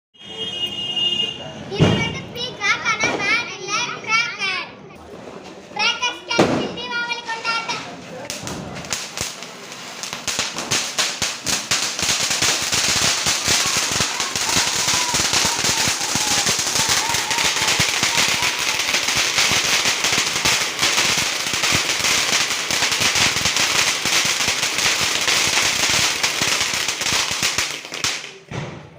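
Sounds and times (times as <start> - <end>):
firecrackers crackling: 0.4 - 4.2, 5.0 - 28.9.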